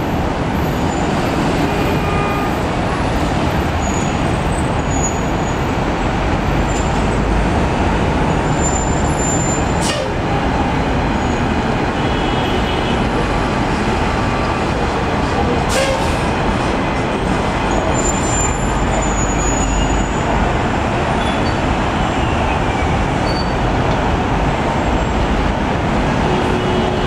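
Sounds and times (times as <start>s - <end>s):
street traffic: 0.0s - 27.0s.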